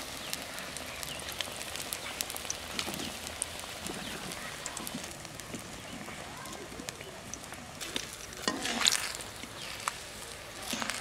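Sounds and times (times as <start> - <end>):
deep-frying sizzle with crackling pops: 0.0 - 11.0.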